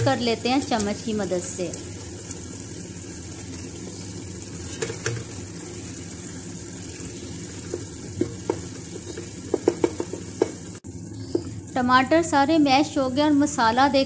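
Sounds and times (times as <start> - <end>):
masala sizzling in a pot: 0.0 - 14.0.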